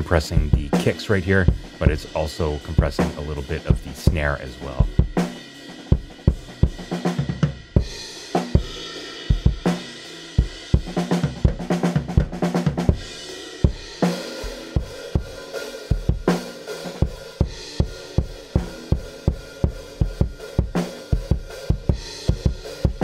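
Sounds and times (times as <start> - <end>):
hi-hat and cymbals: 0.0 - 11.9, 12.5 - 23.0.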